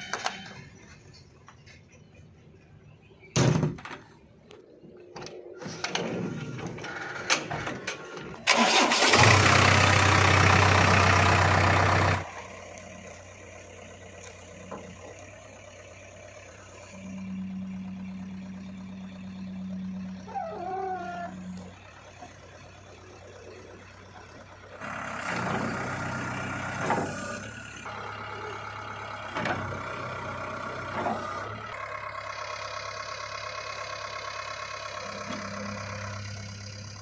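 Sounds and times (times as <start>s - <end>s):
diesel engine starting and idling: 0.0s - 37.0s.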